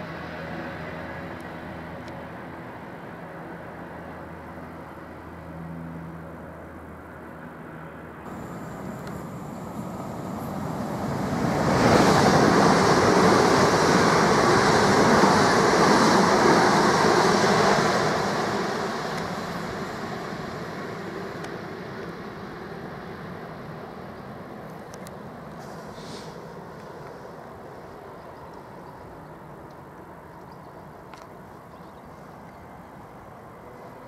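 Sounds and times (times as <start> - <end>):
train passing at speed: 0.0 - 34.0.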